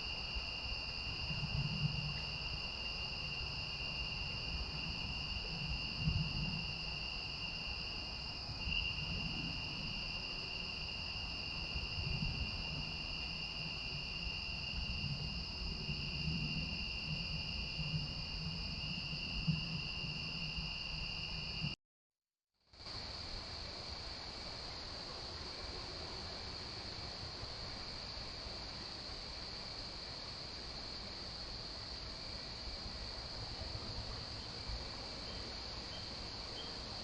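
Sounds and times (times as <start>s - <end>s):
crickets trilling: 0.0s - 21.8s, 22.8s - 37.0s.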